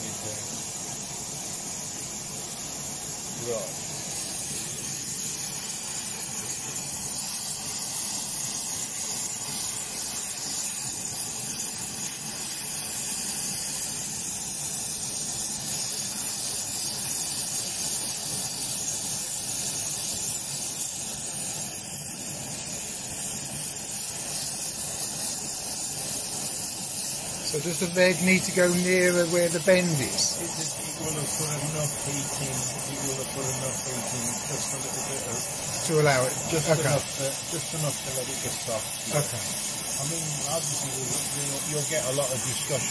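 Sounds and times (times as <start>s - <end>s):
gas torch flame hissing: 0.0s - 42.9s.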